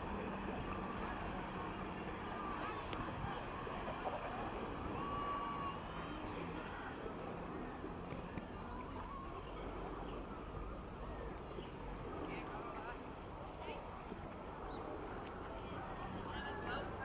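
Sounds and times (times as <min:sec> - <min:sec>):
steady low sea rush: 0:00.0 - 0:17.0.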